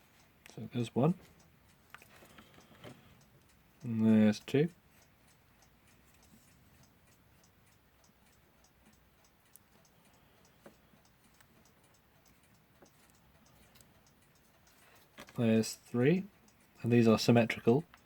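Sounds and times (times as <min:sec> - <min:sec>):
mechanical clock ticking: 0:00.0 - 0:18.0
soft clicks of small parts: 0:00.0 - 0:18.0.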